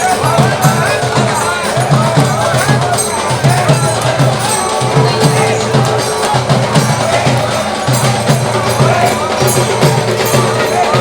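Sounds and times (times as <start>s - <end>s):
music with fast drum beat: 0.0s - 11.0s
wood-block percussion clacking: 0.0s - 11.0s.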